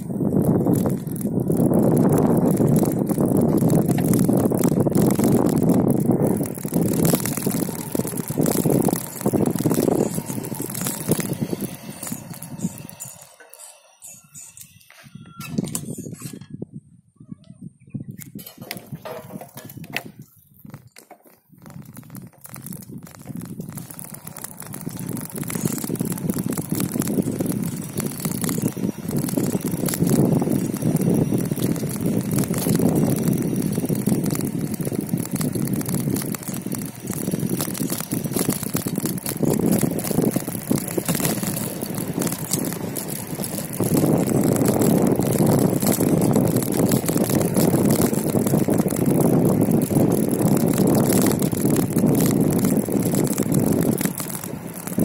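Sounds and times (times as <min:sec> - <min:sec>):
wind on microphone: 0:00.0 - 0:13.4, 0:14.0 - 0:55.0
bicycle tyres rumbling on road: 0:00.0 - 0:16.4, 0:18.2 - 0:55.0.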